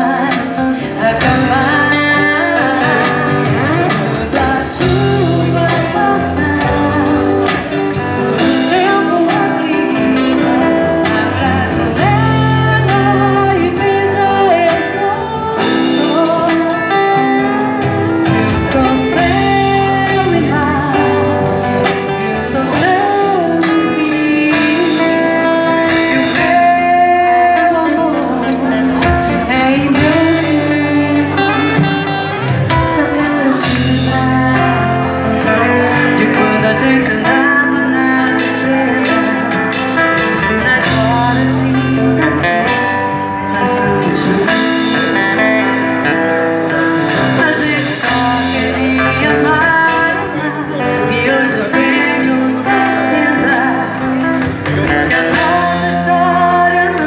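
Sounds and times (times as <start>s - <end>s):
drums: 0.0s - 57.0s
strummed acoustic guitar: 0.0s - 57.0s
woman singing: 0.0s - 57.0s.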